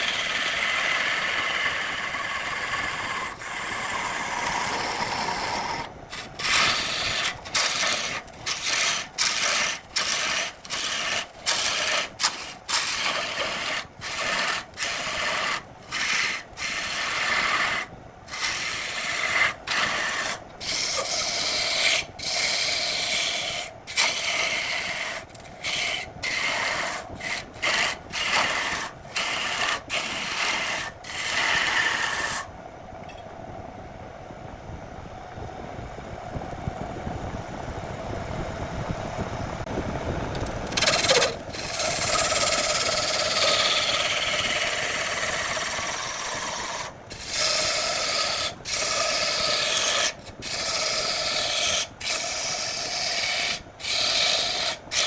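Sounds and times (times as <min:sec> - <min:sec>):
lathe running: 0:00.0 - 0:32.5, 0:40.4 - 0:55.0
lathe tool scraping wood: 0:00.0 - 0:32.5, 0:40.7 - 0:55.0.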